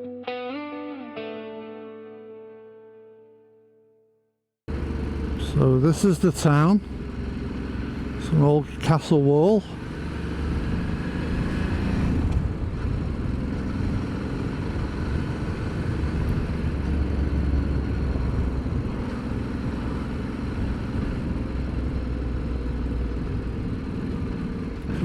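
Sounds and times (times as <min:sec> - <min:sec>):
motorcycle engine running: 0:04.7 - 0:25.0.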